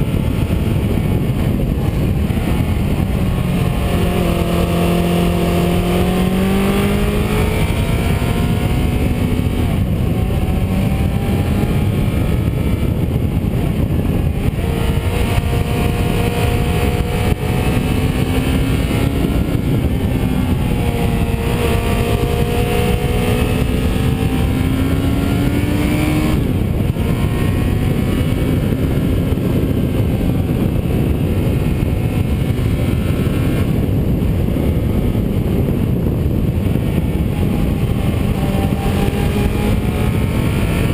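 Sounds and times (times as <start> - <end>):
vehicle engine driving: 0.0 - 40.9.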